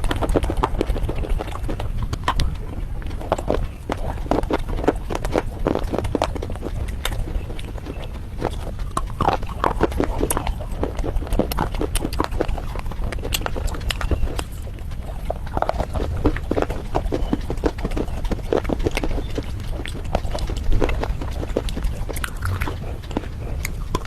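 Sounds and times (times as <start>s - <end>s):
crunching and chewing: 0.0s - 24.0s.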